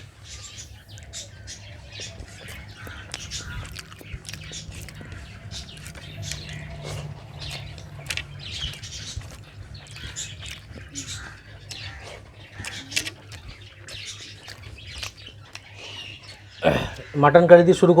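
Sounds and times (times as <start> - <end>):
wet chewing and mouth smacks: 0.1 - 17.2
steady low hum: 0.7 - 15.5.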